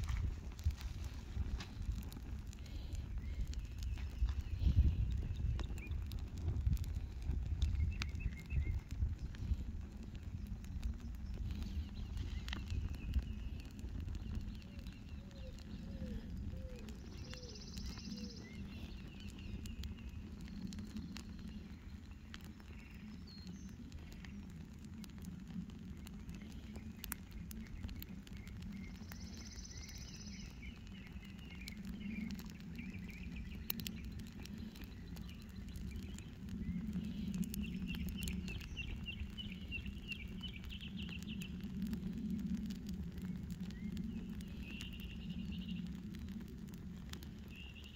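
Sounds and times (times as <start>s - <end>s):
birds chirping: 0.0s - 47.9s
fire crackling and popping: 0.0s - 47.9s.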